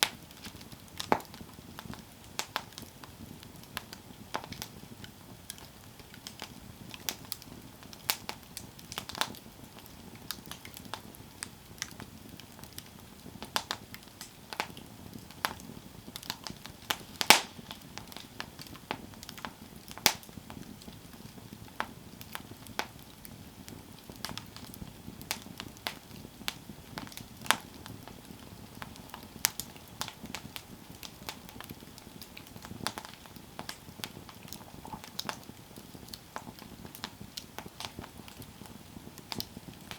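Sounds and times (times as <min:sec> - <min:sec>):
campfire crackling and popping: 0:00.0 - 0:39.9
flames hissing: 0:00.0 - 0:39.9.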